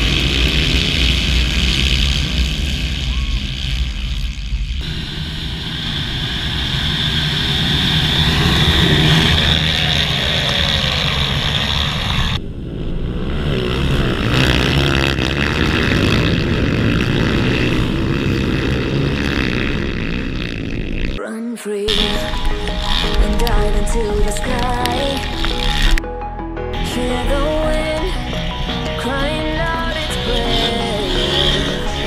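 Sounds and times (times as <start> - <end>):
dirt bikes passing close by: 0.0 - 21.2, 21.9 - 26.0, 26.8 - 32.0
motocross bikes running together: 0.0 - 21.2, 21.9 - 26.0, 26.8 - 32.0.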